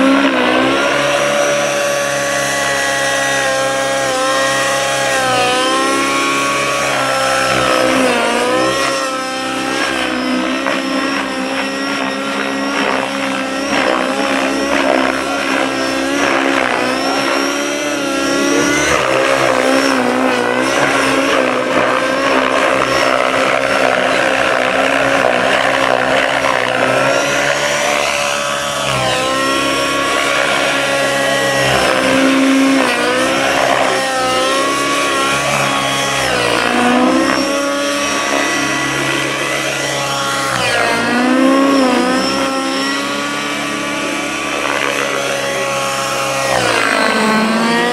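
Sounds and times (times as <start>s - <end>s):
model helicopter engine whining: 0.0s - 47.9s.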